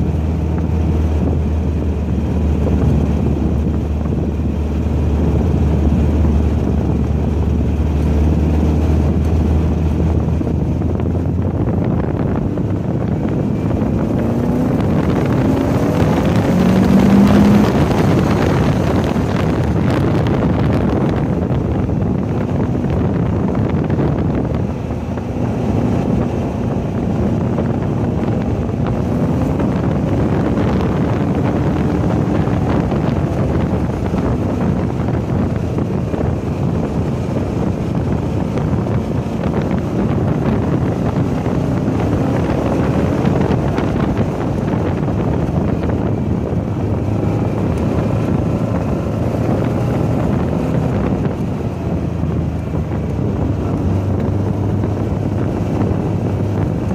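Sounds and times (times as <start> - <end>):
car engine running hard: 0.0 - 56.9
wind rushing over microphone: 0.0 - 56.9.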